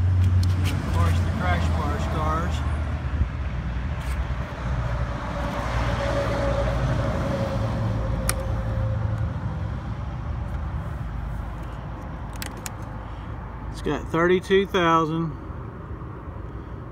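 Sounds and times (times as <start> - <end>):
traffic rumble: 0.0 - 16.9.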